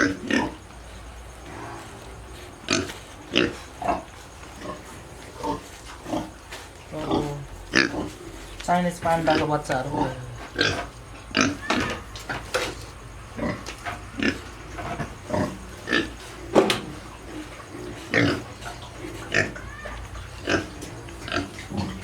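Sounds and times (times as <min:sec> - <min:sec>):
piglets grunting and squealing: 0:00.0 - 0:22.0.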